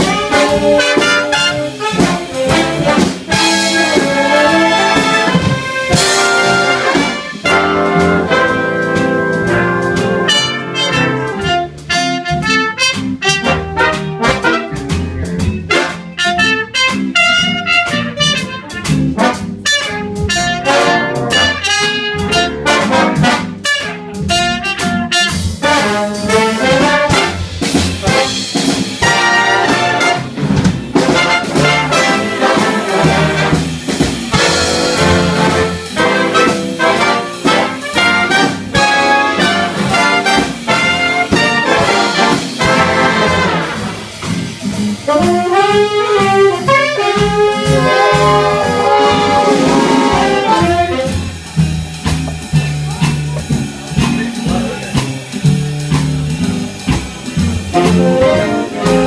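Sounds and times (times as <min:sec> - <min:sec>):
big band playing swing jazz: 0:00.0 - 0:59.0.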